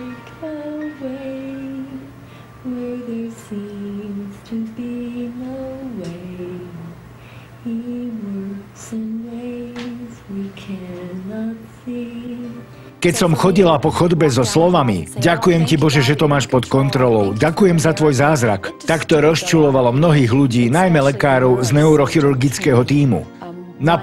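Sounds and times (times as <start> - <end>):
person singing worship song: 0.0 - 24.0.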